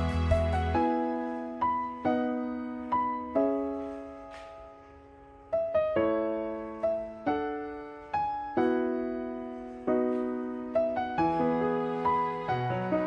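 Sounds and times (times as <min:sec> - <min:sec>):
gentle piano chords: 0:00.0 - 0:13.0.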